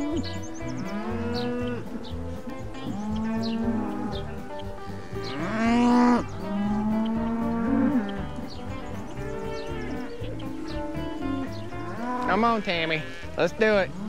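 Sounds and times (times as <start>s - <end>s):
cows mooing: 0.0s - 14.0s.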